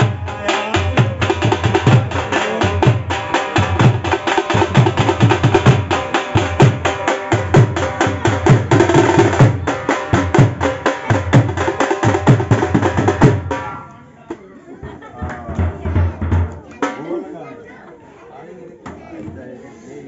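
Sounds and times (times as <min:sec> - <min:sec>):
dhol drums beaten with sticks: 0:00.0 - 0:14.4, 0:15.2 - 0:17.2.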